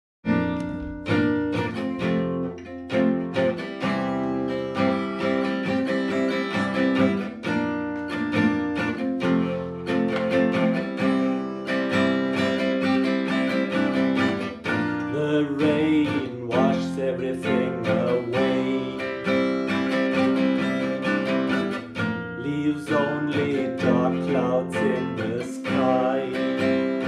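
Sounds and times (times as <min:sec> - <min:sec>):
acoustic guitar playing: 0:00.2 - 0:27.0.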